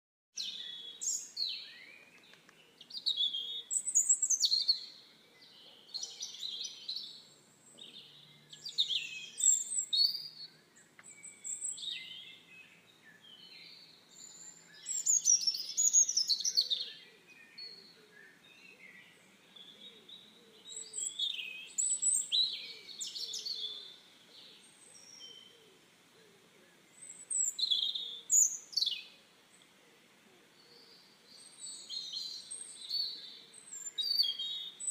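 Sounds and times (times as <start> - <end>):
songbirds singing: 0.4 - 34.9.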